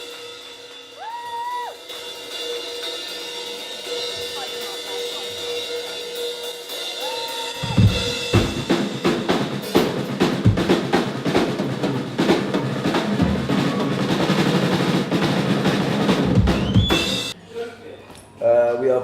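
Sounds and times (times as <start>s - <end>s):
rock drum kit beat: 0.0s - 17.4s.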